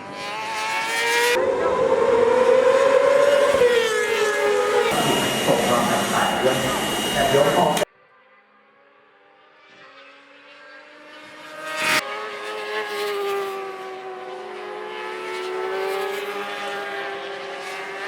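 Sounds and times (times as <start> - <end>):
motorcycle engines at high revs: 0.0 - 7.8, 9.6 - 18.0.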